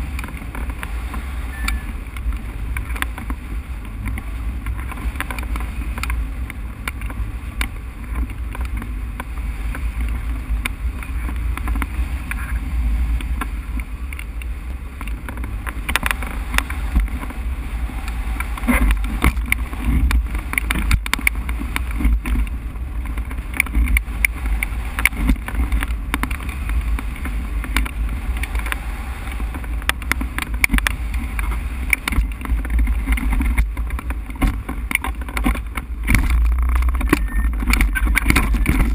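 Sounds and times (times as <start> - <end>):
rattles and ticks: 0.0 - 38.9
wind rumbling on microphone: 0.0 - 38.9.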